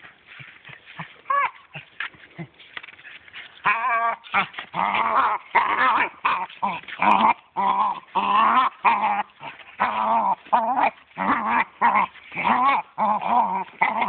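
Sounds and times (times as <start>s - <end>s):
dog growling and whining: 1.0s - 2.5s, 3.6s - 14.0s.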